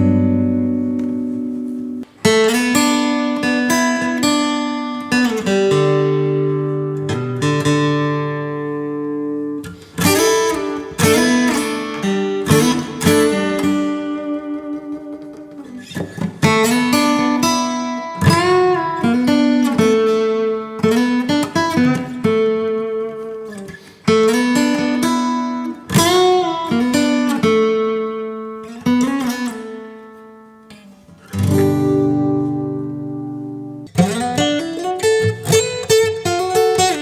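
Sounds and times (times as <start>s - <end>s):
acoustic guitar strumming: 0.0s - 37.0s
picked guitar notes: 0.0s - 37.0s.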